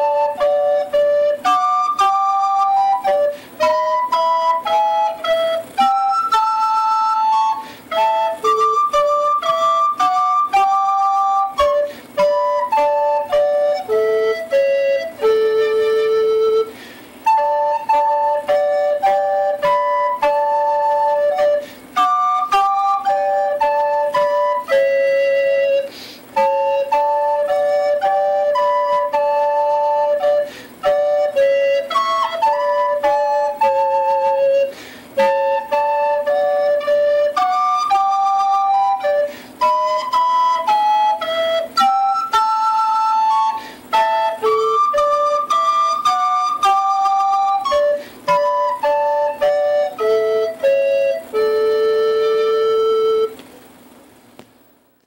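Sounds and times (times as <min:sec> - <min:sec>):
flute-like harmony melody: 0:00.0 - 0:53.4.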